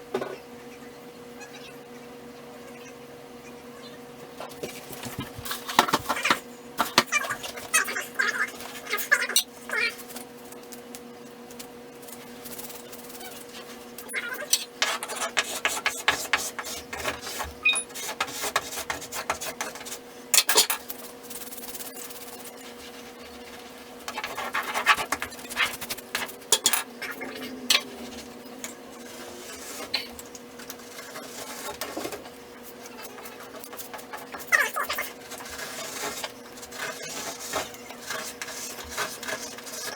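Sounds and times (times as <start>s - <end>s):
steady electrical hum: 0.0s - 39.9s
scraping and rubbing: 4.4s - 10.4s, 12.0s - 39.9s.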